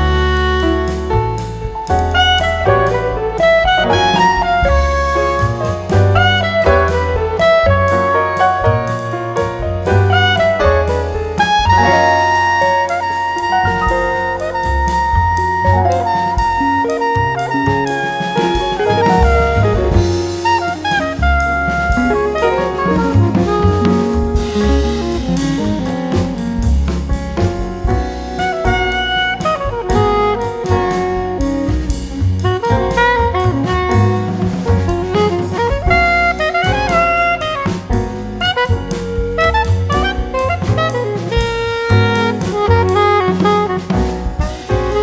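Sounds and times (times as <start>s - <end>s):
saxophone lead: 0.0s - 26.9s, 27.9s - 45.0s
bass notes: 0.0s - 45.0s
drum kit: 0.0s - 45.0s
horn melody: 0.0s - 45.0s
upbeat jazz tune: 0.0s - 45.0s.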